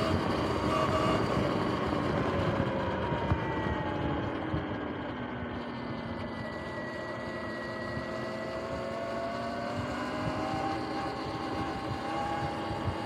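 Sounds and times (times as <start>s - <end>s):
electric motor and chain whining: 0.0s - 13.0s
road and wind noise: 0.0s - 13.0s.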